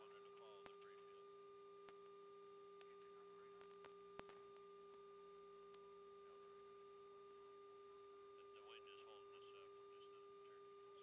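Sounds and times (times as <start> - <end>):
faint two-tone hum: 0.0 - 11.0.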